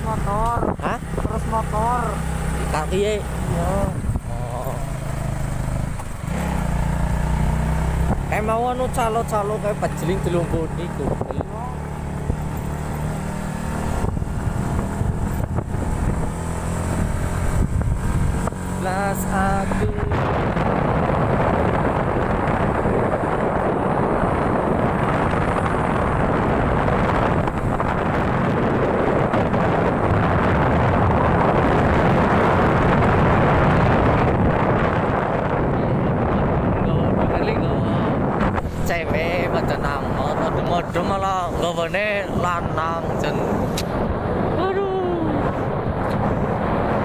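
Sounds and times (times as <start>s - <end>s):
motorcycle engine running: 0.0s - 47.0s
road noise: 0.0s - 47.0s
wind buffeting microphone: 0.0s - 47.0s.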